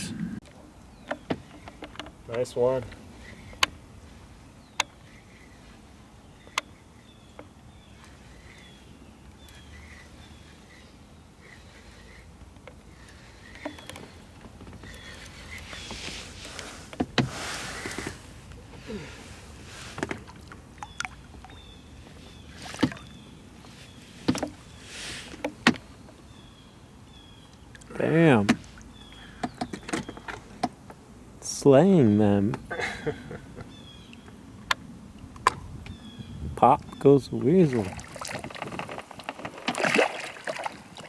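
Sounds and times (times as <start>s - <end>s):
birds chirping: 0.0s - 39.1s
outdoor background noise: 0.0s - 41.0s.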